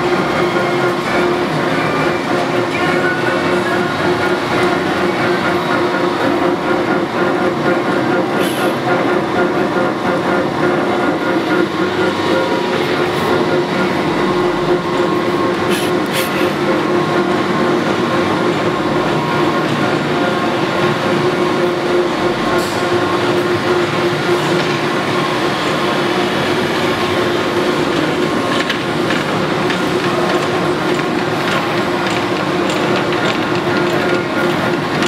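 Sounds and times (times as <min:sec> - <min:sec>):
lathe running with whine: 0:00.0 - 0:35.0.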